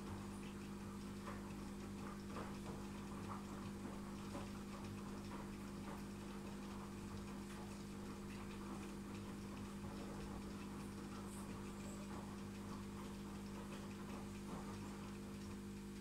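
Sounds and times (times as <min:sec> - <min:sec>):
aquarium pump humming: 0:00.0 - 0:16.0
faint crackle of ticks: 0:00.0 - 0:16.0.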